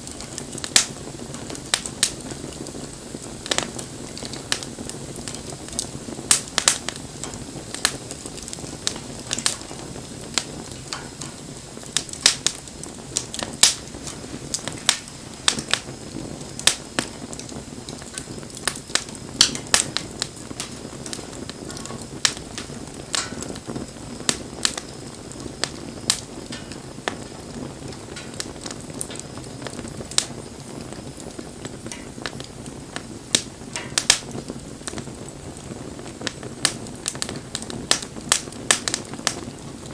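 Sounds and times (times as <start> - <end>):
hiss of flames: 0.0 - 39.9
wood fire crackling and popping: 0.0 - 39.9.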